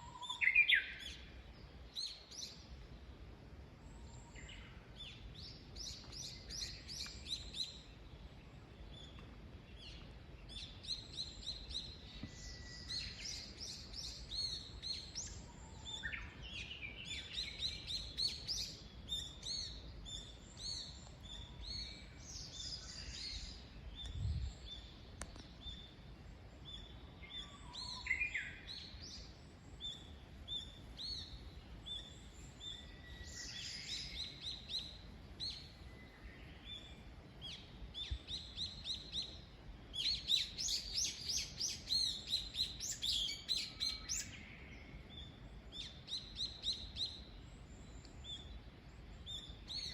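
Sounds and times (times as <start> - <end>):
small birds chirping and singing: 0.0 - 2.9, 3.8 - 49.9
faint background hiss: 0.0 - 49.9.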